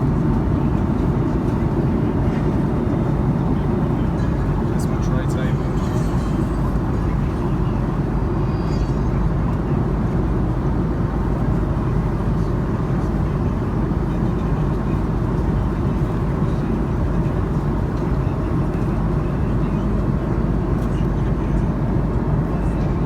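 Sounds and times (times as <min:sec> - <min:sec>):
airplane cabin drone: 0:00.0 - 0:23.0.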